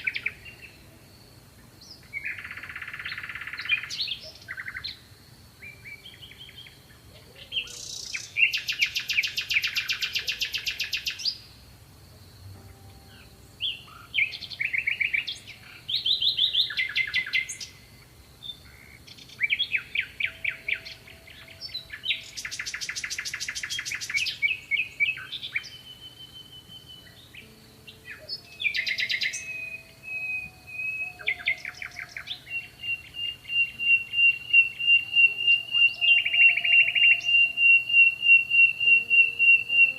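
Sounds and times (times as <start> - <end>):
bird whistling a steady note: 0.0 - 1.1, 1.8 - 5.0, 5.6 - 11.5, 12.4 - 39.9
faint steady high tone: 0.0 - 5.0, 5.6 - 39.9
songbirds trilling and chirping: 0.0 - 39.9.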